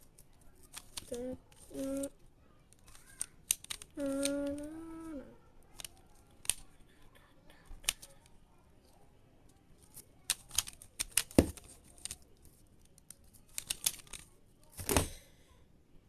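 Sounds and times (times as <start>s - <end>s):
plastic puzzle clicking and clacking: 0.0s - 6.8s, 7.6s - 8.3s, 9.5s - 15.2s.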